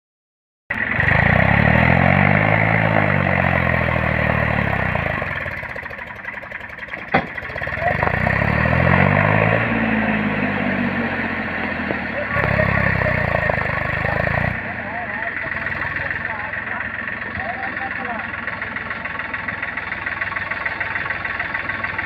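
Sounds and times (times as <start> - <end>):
tractor engine under load: 0.7 - 22.0.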